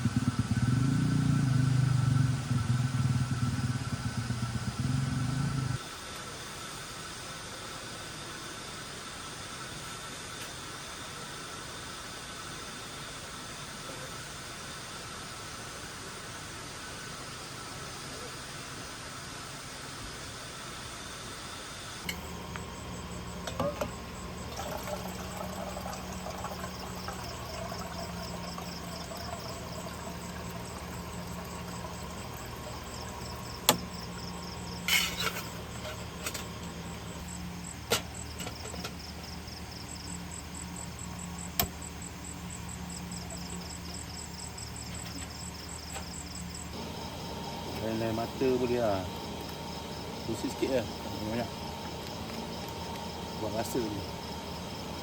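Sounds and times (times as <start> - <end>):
insects chirping: 0.0 - 55.0
steady low hum: 0.0 - 55.0.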